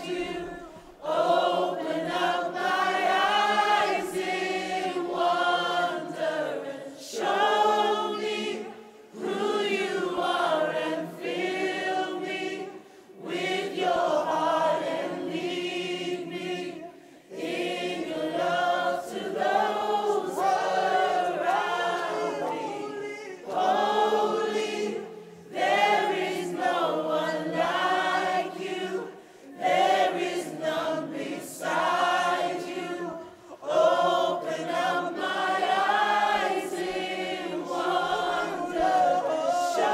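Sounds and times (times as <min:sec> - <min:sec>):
group singing worship song: 0:00.0 - 0:39.9.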